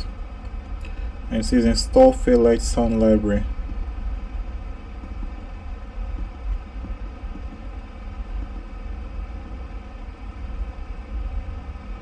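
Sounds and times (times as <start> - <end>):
faint even hum: 0.0 - 12.0
low background rumble: 0.0 - 12.0.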